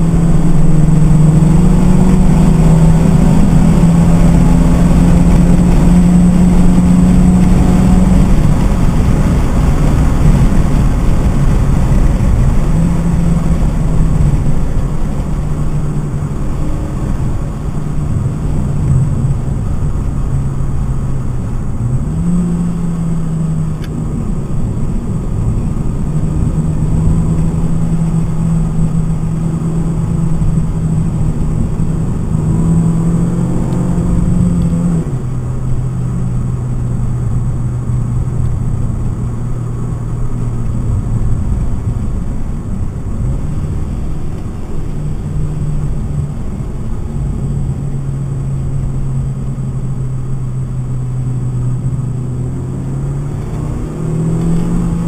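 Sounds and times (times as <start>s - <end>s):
car engine at speed: 0.0s - 55.0s
road and tyre rumble: 0.0s - 55.0s.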